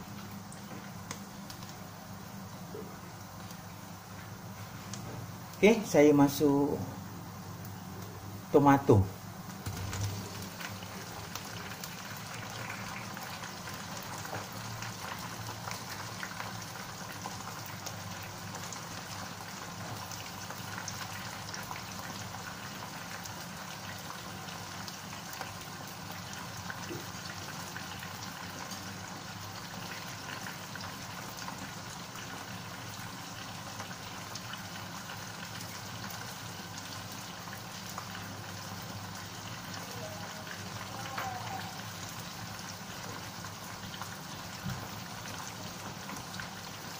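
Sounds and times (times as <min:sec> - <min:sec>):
food sizzling in oil: 0:09.2 - 0:46.9.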